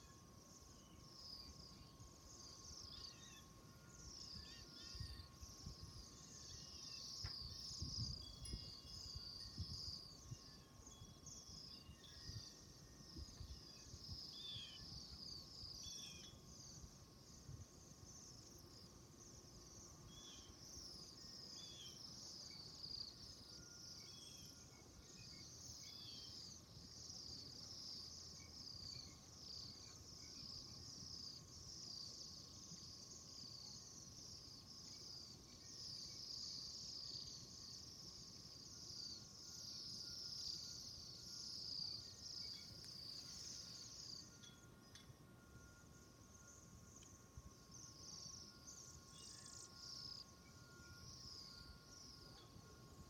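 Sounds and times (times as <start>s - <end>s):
flock of small birds chirping: 0.0s - 44.4s.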